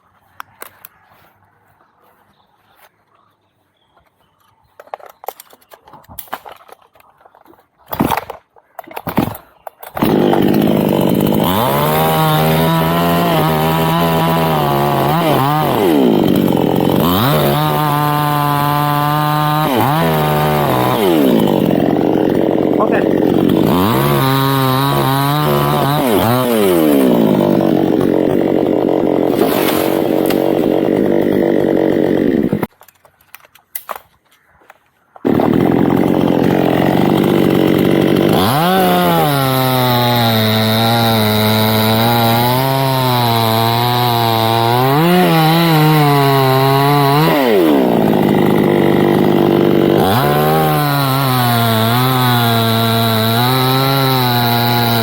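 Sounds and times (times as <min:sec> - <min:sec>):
chainsaw cutting wood: 0:04.8 - 0:55.0.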